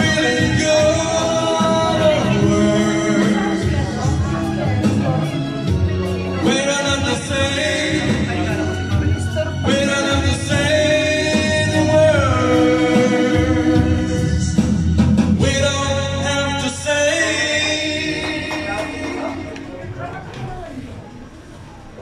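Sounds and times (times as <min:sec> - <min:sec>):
man singing into a microphone: 0:00.0 - 0:19.6
recorded backing track: 0:00.0 - 0:22.0.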